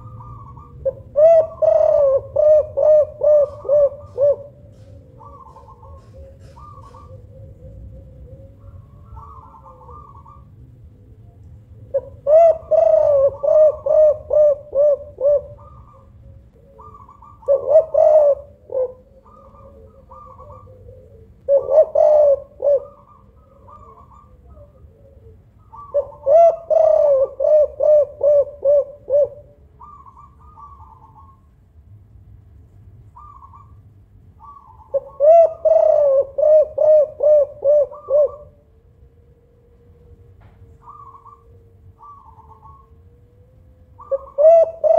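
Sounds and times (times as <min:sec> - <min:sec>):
dove cooing: 0:00.0 - 0:31.6, 0:33.1 - 0:44.9
higher bird calls: 0:00.0 - 0:31.6, 0:33.1 - 0:38.7, 0:39.9 - 0:44.9.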